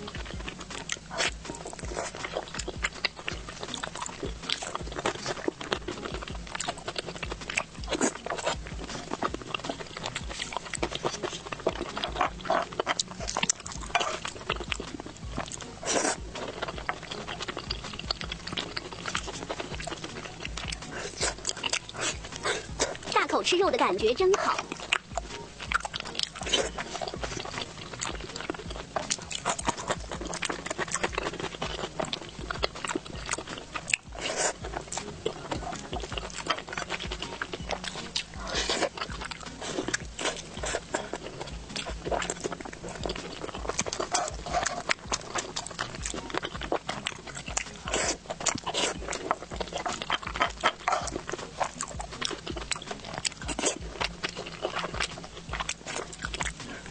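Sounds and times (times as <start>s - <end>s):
person chewing and lip-smacking: 0.0s - 56.9s.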